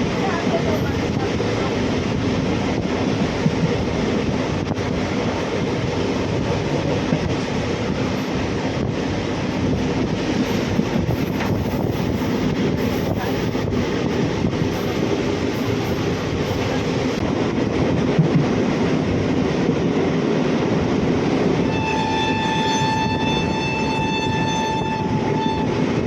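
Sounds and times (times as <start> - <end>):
passenger train rumbling on tracks: 0.0 - 26.0.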